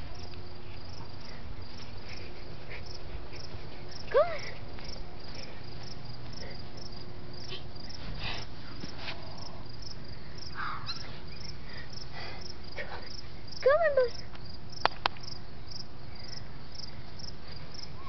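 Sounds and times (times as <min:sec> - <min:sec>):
crickets chirping: 0:00.0 - 0:18.0
faint low background hum: 0:00.0 - 0:18.0.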